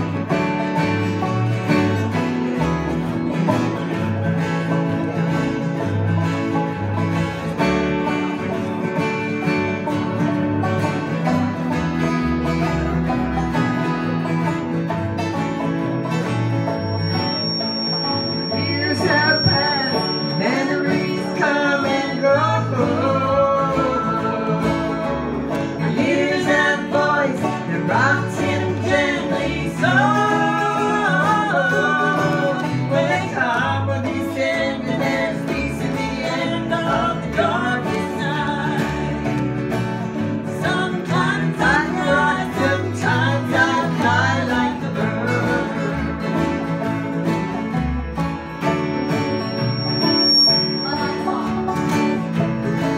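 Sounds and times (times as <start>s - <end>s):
banjo: 0.0s - 52.9s
strummed acoustic guitars: 0.0s - 52.9s.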